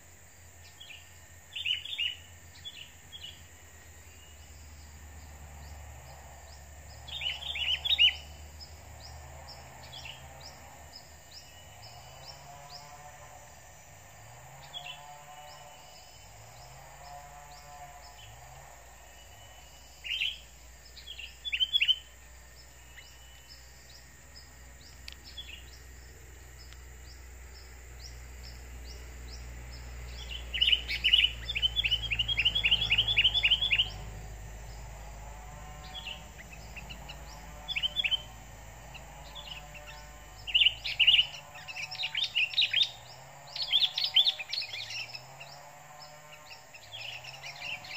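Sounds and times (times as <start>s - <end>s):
bulbuls calling in sharp chirps: 0.6s - 47.9s.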